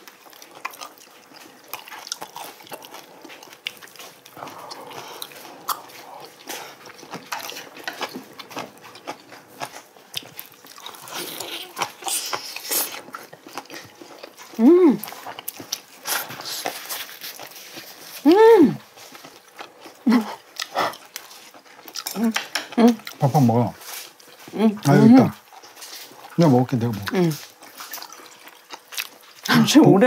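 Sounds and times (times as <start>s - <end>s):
chewing with wet mouth smacks: 0.0s - 18.2s, 18.8s - 29.6s.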